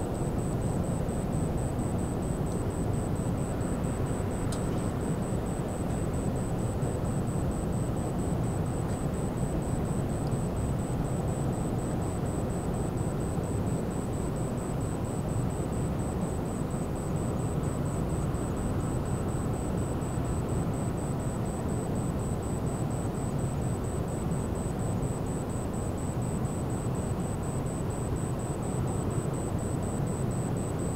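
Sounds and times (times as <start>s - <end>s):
faint high-pitched beeping: 0.0s - 30.9s.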